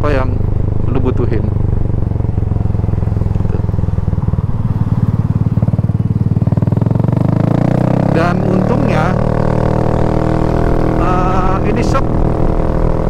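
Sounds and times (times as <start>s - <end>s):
scooter engine throbbing: 0.0s - 13.0s.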